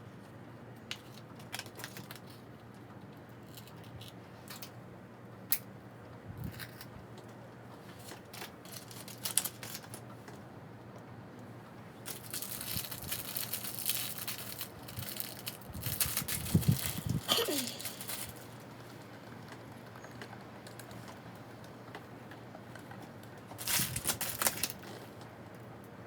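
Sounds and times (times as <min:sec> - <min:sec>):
crinkling: 0:00.2 - 0:04.8, 0:06.4 - 0:10.5, 0:11.4 - 0:25.6.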